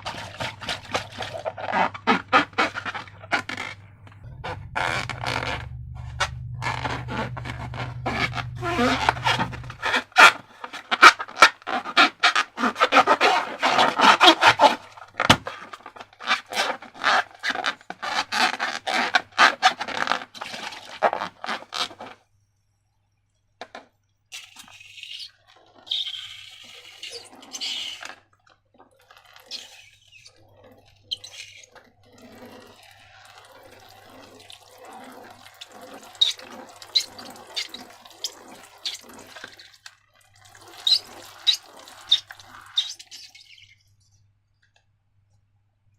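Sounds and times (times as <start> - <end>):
slime squishing and squelching: 0.0 - 22.2, 29.0 - 43.8.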